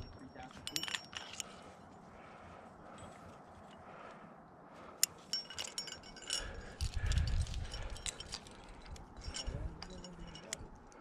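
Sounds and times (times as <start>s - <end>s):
carabiners clinking: 0.0s - 4.1s, 4.8s - 11.0s.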